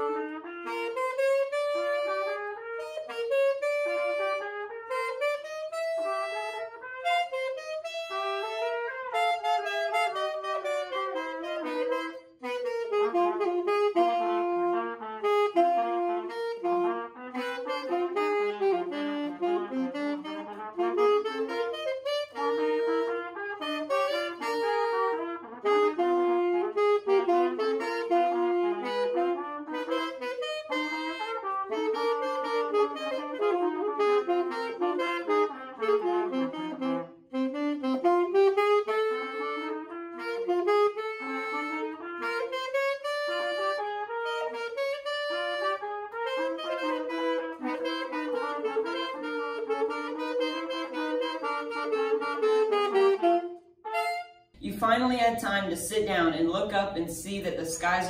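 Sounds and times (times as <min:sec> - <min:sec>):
saxophone and trumpet duet: 0:00.0 - 0:58.0.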